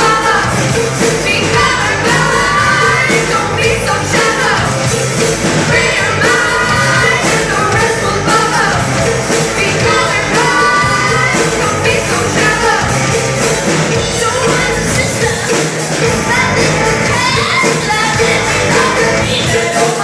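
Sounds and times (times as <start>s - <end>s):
female vocals: 0.0s - 5.0s, 5.7s - 13.2s, 14.0s - 20.0s
drums: 0.0s - 20.0s
electric guitar: 0.0s - 20.0s.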